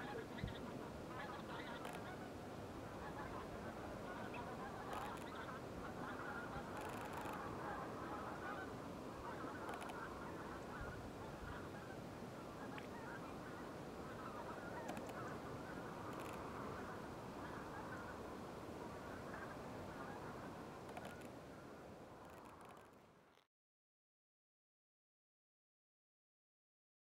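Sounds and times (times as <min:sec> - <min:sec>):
distant geese honking: 0:00.0 - 0:23.0.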